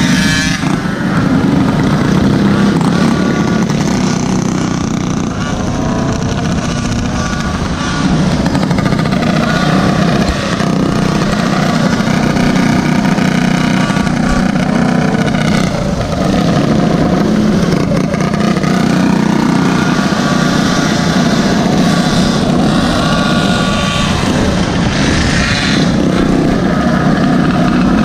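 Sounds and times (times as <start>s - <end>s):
mini bike engine running: 0.0s - 28.0s.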